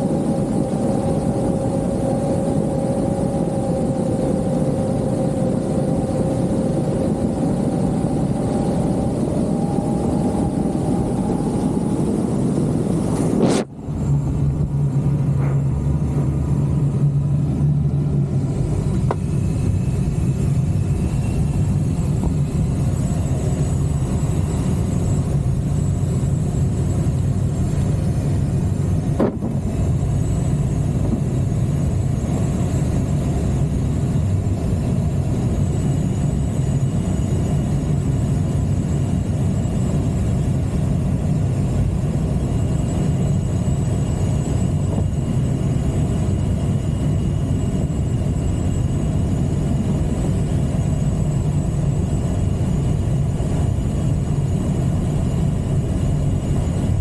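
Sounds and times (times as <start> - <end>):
airflow rumble around cockpit: 0.0 - 57.0.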